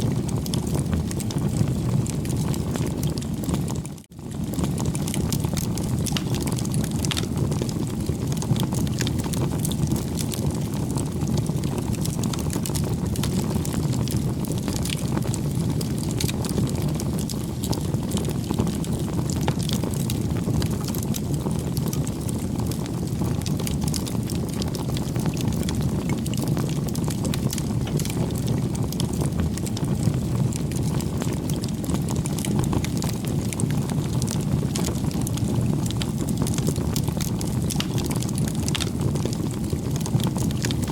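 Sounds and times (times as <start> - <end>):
bonfire flames rushing: 0.0 - 40.9
wood crackling and popping: 0.0 - 40.9.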